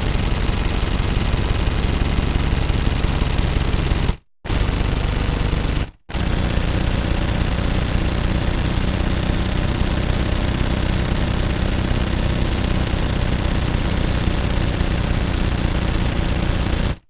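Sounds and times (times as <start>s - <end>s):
rapid automatic gunfire: 0.0s - 17.0s.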